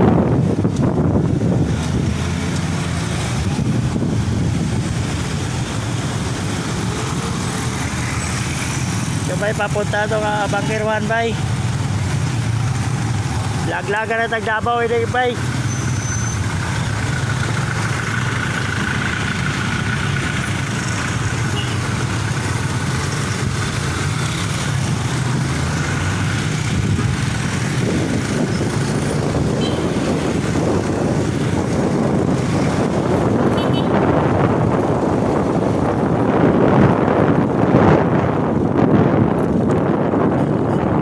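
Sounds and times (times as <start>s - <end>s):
wind buffeting microphone: 0.0s - 13.7s, 16.4s - 41.0s
street traffic: 0.0s - 41.0s.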